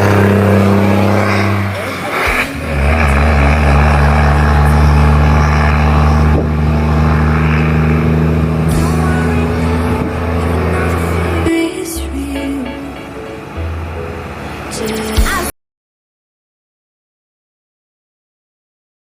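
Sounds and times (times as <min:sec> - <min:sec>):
truck diesel engine droning: 0:00.0 - 0:15.5.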